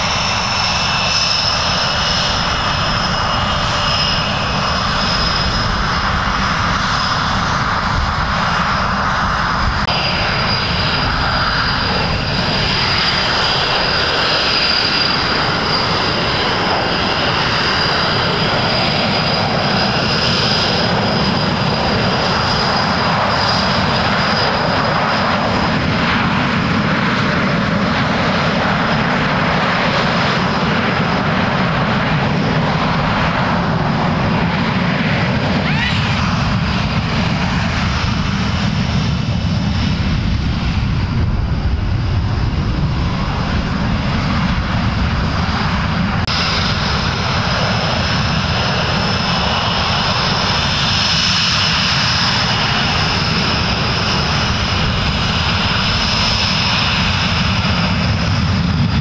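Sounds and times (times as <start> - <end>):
jet engines high whine: 0.0 - 59.0.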